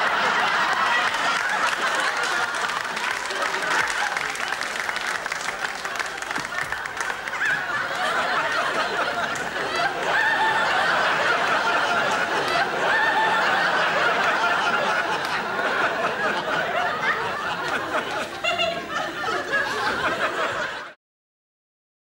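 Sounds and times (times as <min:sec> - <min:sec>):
audience laughing loudly: 0:00.0 - 0:21.0.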